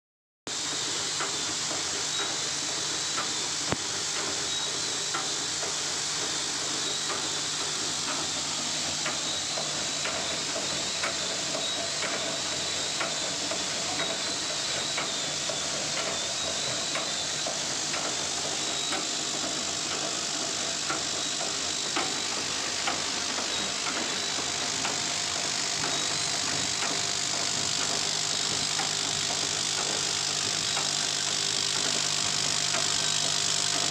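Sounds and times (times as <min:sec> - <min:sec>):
packing machine hiss and hum: 0:00.5 - 0:33.9
faint regular machine clicks: 0:00.6 - 0:33.9.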